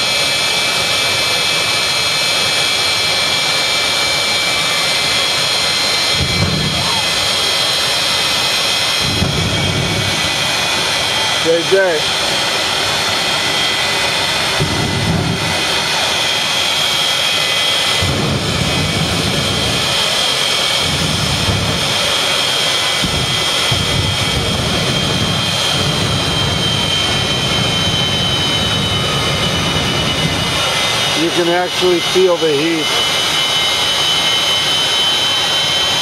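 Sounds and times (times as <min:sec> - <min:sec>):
jet engine roaring with high whine: 0:00.0 - 0:36.0.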